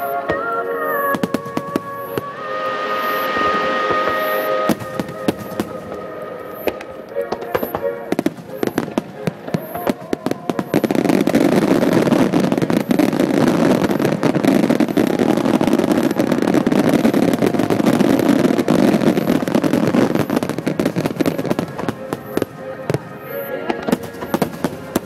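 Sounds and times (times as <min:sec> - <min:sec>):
firework crackles: 0:00.0 - 0:25.0.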